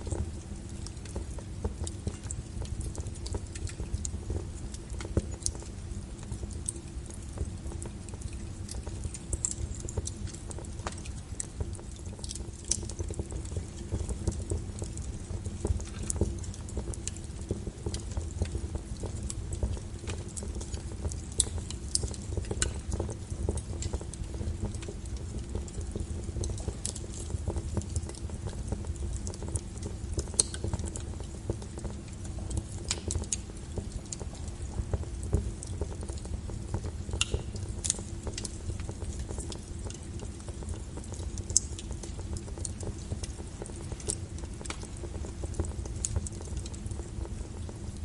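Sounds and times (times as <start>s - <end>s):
fire crackles and pops: 0.0s - 48.0s
low rumble of burning logs: 0.0s - 48.0s.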